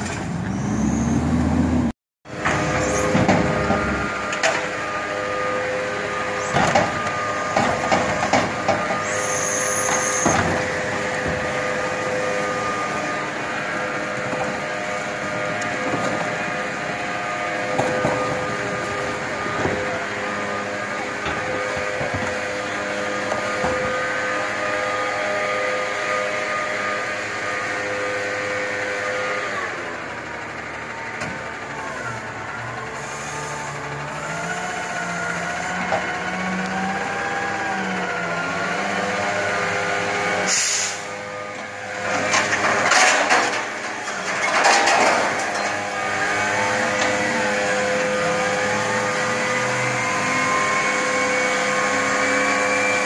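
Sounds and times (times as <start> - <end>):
garbage truck engine running: 0.0 - 53.0.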